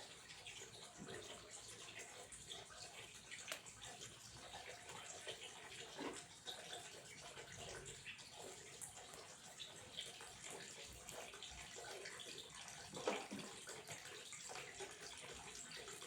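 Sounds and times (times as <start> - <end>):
faint water flowing and splashing: 0.0 - 16.0
water plops and drips: 0.3 - 16.0.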